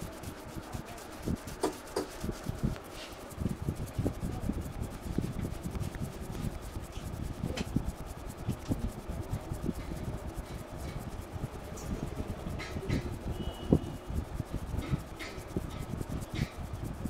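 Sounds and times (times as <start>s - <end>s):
hands rubbing scalp and hair: 0.0s - 17.0s.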